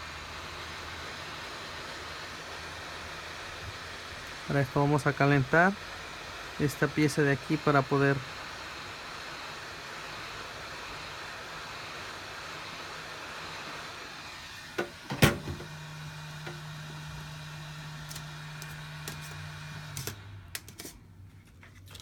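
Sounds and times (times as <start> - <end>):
heat gun blowing air: 0.0 - 20.9.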